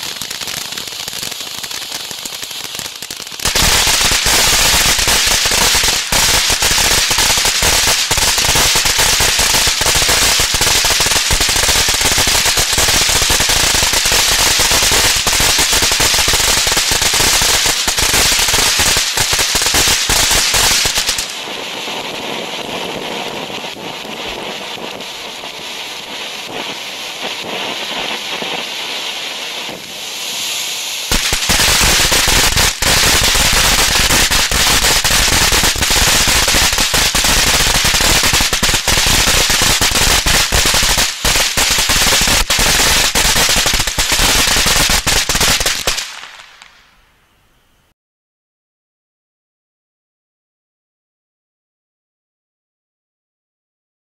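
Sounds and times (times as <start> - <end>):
firework fountain crackling: 0.0 - 47.6
hiss of spark spray: 2.3 - 47.0.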